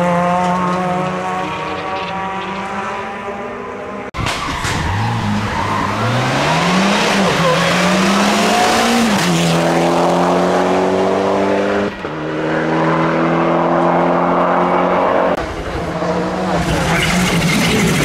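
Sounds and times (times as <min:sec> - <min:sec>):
rally car engine at full throttle: 0:00.0 - 0:18.0
rougher noisier car engine: 0:00.0 - 0:18.0.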